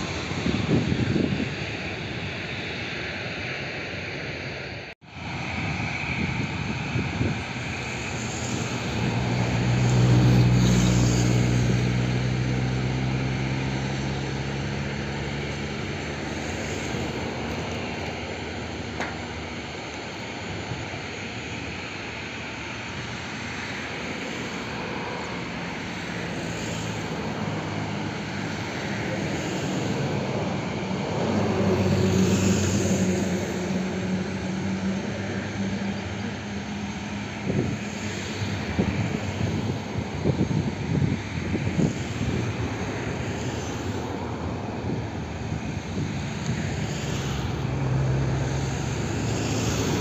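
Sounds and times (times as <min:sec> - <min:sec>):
jet engines running at low power: 0:00.0 - 0:50.0.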